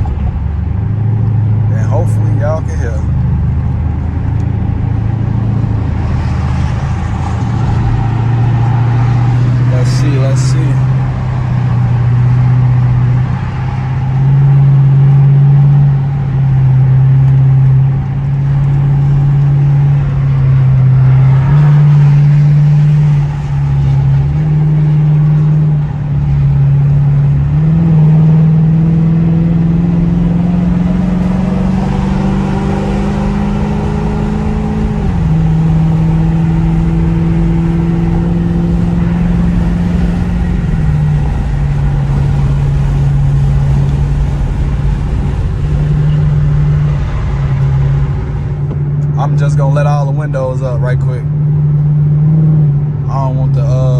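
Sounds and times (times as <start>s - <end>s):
car exhaust drone: 0.0s - 53.9s.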